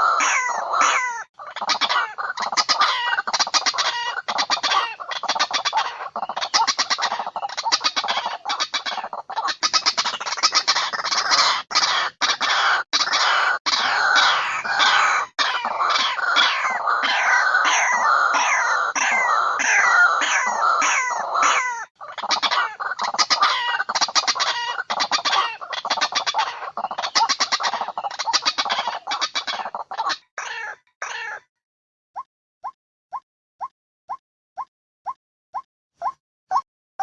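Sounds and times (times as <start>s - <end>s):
bird calls rapid repeated notes: 0.0s - 31.5s, 32.2s - 36.7s.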